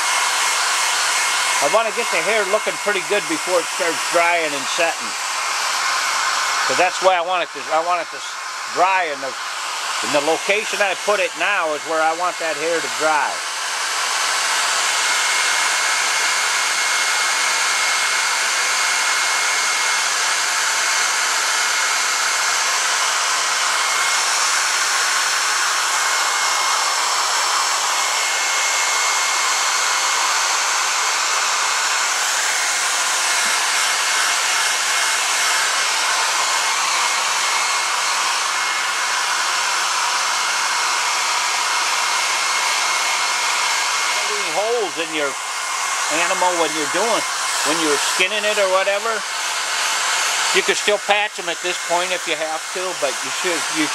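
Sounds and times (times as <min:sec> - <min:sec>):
hair dryer blowing: 0:00.0 - 0:53.9.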